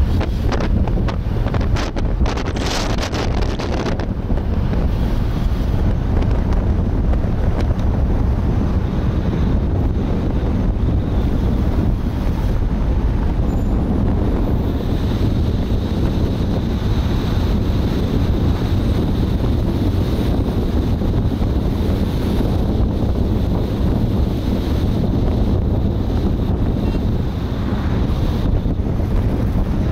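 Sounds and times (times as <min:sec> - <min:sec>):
car road noise: 0:00.0 - 0:29.9
wind buffeting microphone: 0:00.0 - 0:29.9.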